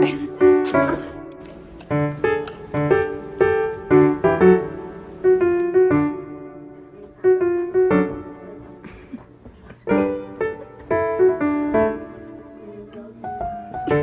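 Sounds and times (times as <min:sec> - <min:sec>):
piano playing light chords: 0:00.0 - 0:14.0.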